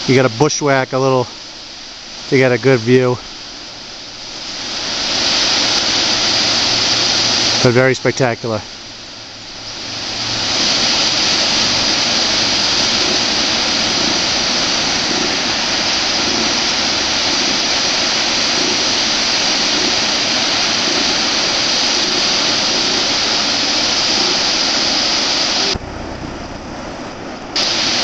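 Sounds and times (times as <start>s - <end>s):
waterfall pouring: 0.0s - 28.0s.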